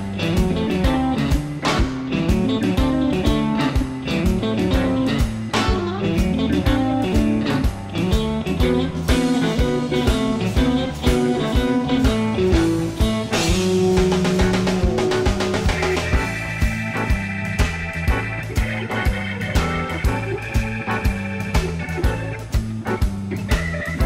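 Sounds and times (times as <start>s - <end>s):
blues-rock guitar music: 0.0s - 24.0s
steady drum beat: 0.0s - 24.0s.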